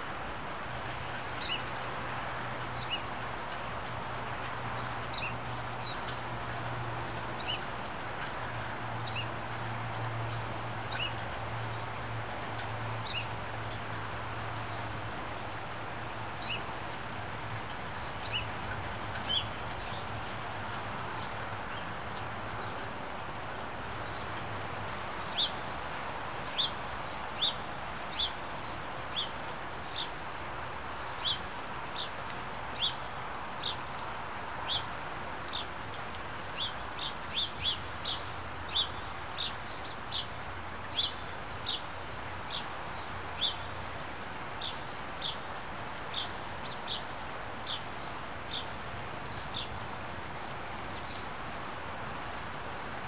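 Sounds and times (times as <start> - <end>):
rain falling on trees: 0.0 - 53.0.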